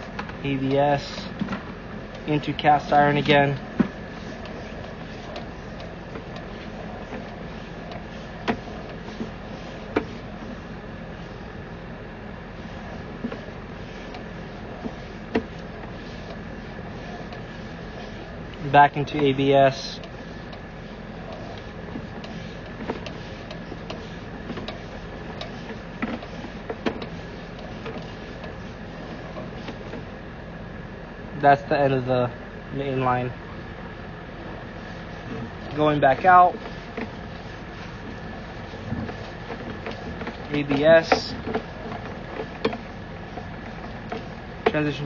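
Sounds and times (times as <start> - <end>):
high whine: 0.0 - 45.0
inspection equipment humming: 0.0 - 45.0.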